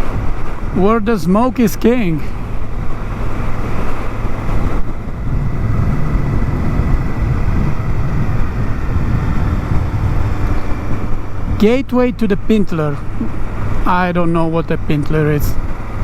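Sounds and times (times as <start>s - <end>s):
motorcycle engine rumbling: 0.0s - 16.0s
wind rushing over microphone: 0.0s - 16.0s.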